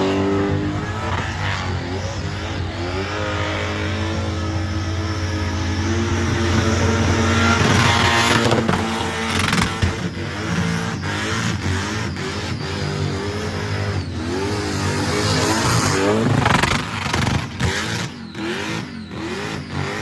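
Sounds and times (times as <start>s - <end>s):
car engine revving: 0.0s - 20.0s
exhaust bangs: 0.0s - 20.0s.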